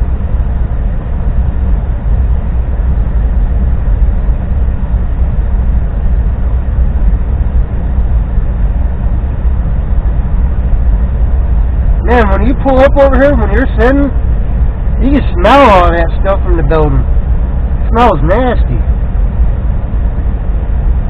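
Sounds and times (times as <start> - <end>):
vehicle idling rumble: 0.0 - 21.0.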